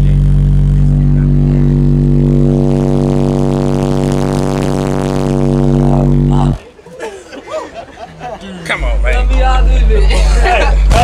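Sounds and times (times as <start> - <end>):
subwoofer bass note: 0.0 - 6.6, 8.8 - 11.0.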